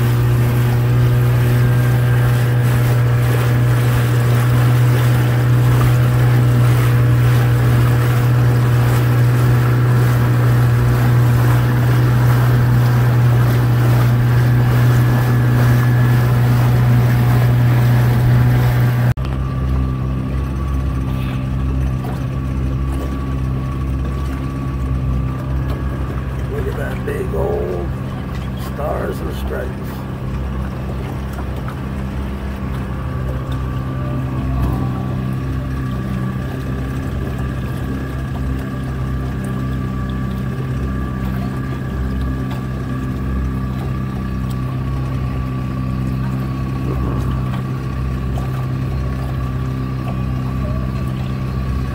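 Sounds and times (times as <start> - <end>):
outboard motor running: 0.0 - 51.9
water noise: 0.0 - 51.9.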